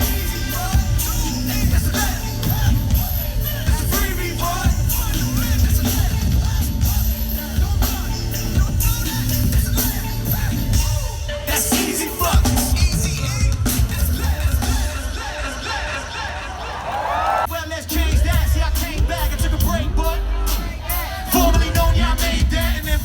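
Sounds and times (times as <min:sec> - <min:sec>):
live concert music with heavy bass: 0:00.0 - 0:23.0
person singing: 0:00.0 - 0:23.0.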